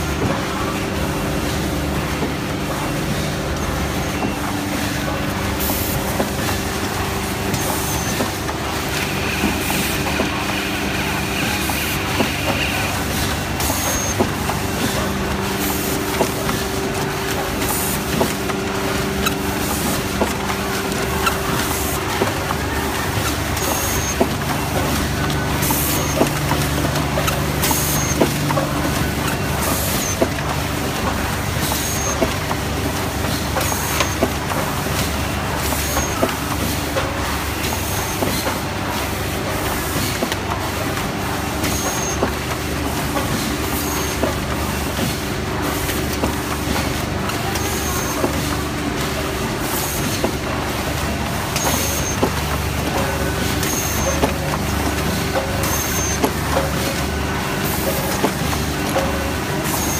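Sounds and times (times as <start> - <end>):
packing machine hum and clacks: 0.0 - 59.9.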